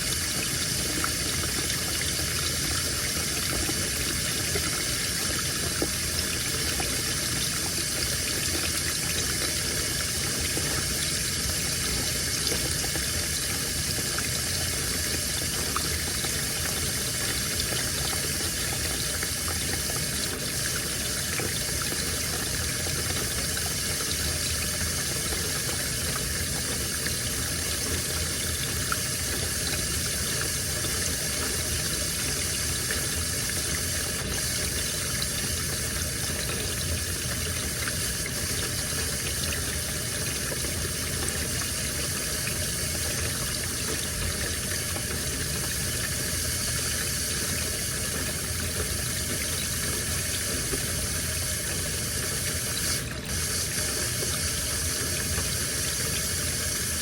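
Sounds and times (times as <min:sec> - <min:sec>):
water rushing into washing machine: 0:00.0 - 0:57.0.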